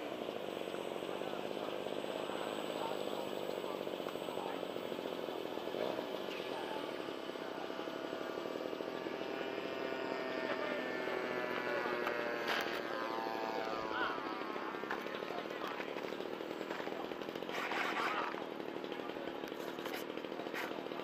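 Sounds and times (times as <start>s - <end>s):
model aircraft motor buzzing: 0.0s - 21.0s.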